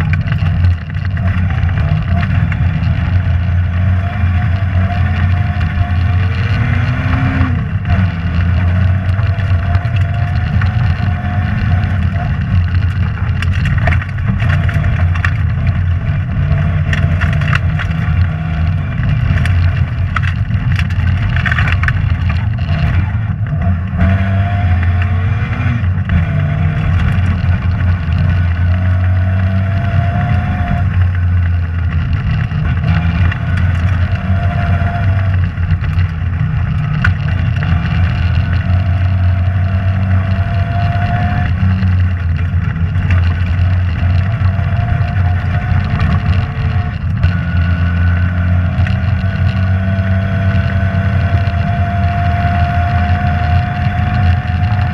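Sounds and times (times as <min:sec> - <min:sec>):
rally car engine from inside cabin: 0:00.0 - 0:54.9.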